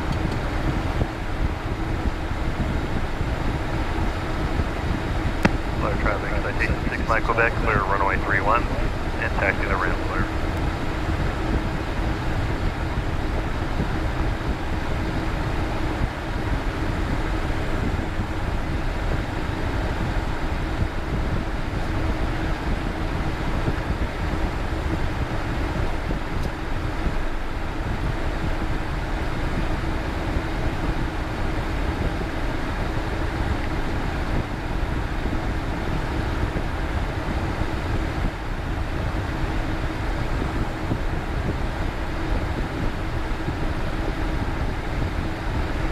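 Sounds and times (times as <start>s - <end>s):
constant hum: 0.0s - 45.9s
jet engines rumbling drone: 0.0s - 45.9s.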